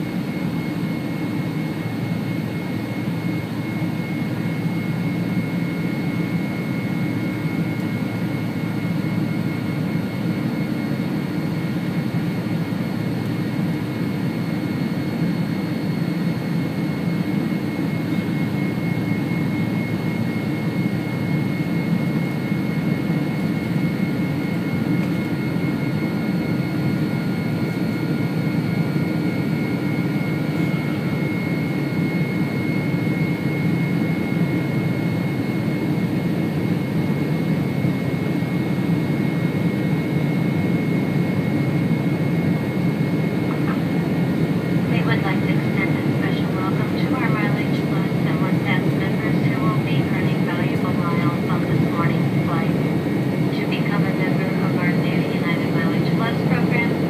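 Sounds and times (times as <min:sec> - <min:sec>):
jet engines low rumble: 0:00.0 - 0:57.0
thin steady whine: 0:00.0 - 0:57.0.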